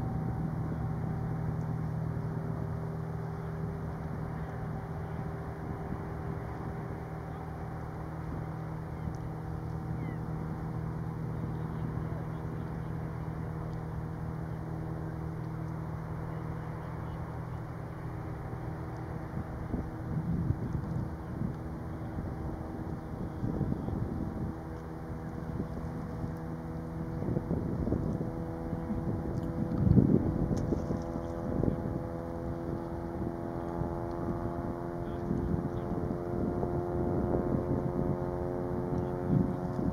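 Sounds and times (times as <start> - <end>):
diesel engines humming: 0.0 - 39.9
wind buffeting microphone: 0.0 - 39.9.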